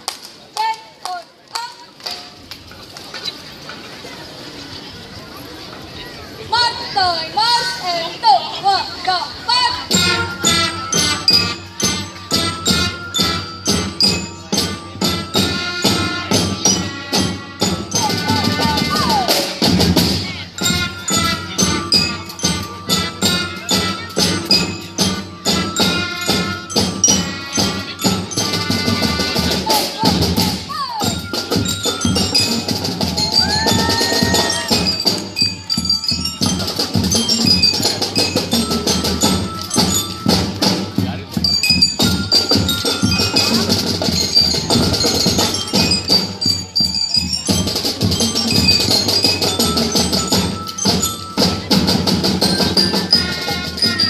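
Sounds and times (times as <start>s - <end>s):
marching band playing: 6.5s - 54.0s
drums keeping steady beat: 9.0s - 54.0s
pitched struck notes: 9.8s - 54.0s.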